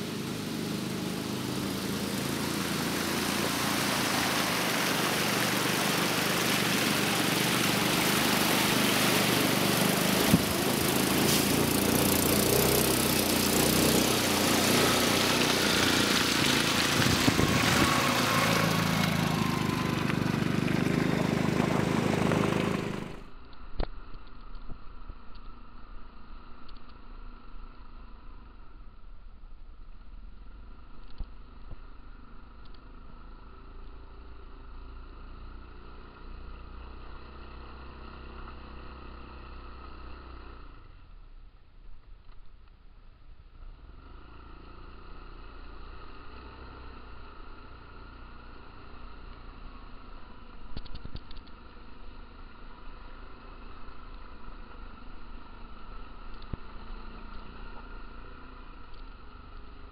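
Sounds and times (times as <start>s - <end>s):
quad bike engine running: 0.0s - 23.4s, 30.4s - 41.0s, 43.5s - 59.9s.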